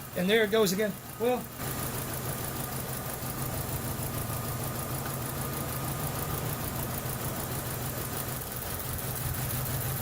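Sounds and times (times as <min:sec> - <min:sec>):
car engine rough idle: 0:00.0 - 0:10.0.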